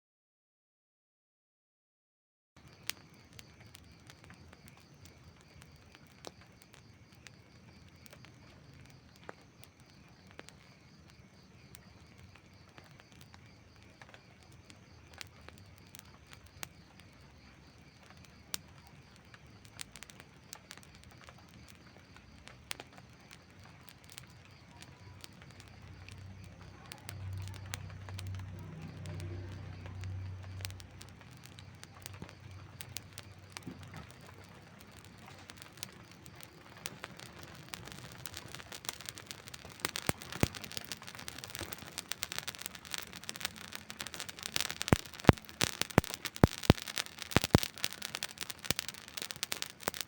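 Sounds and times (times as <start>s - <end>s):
wood fire crackling: 2.6s - 50.0s.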